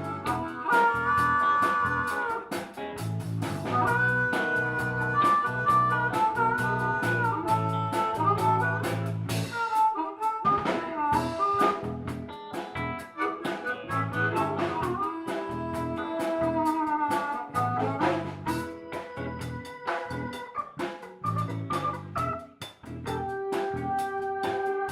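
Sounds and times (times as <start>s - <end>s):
lead instrument bending notes: 0.0s - 2.5s, 3.6s - 24.9s
bass line: 0.0s - 24.9s
drum kit: 0.0s - 24.9s.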